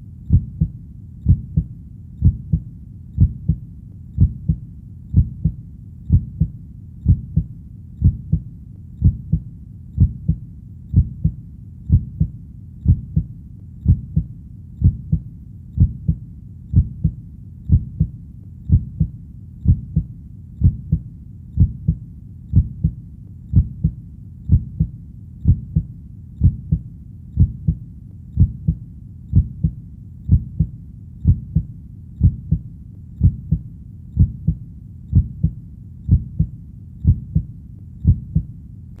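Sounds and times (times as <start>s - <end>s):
heartbeat double thump: 0.3s - 2.6s, 3.2s - 3.6s, 4.2s - 8.4s, 9.0s - 9.4s, 10.0s - 18.1s, 18.7s - 21.0s, 21.6s - 26.8s, 27.4s - 27.8s, 28.4s - 32.6s, 33.2s - 33.6s, 34.2s - 38.5s.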